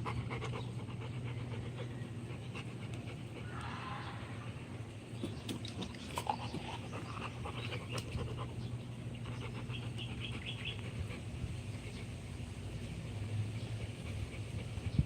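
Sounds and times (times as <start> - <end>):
dog panting: 0.0 - 3.5, 5.7 - 15.0
steady low hum: 0.0 - 15.0.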